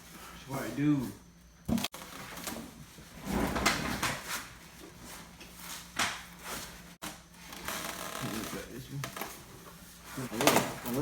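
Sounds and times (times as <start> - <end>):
refrigerator rolling on tile floor: 1.7 - 11.0.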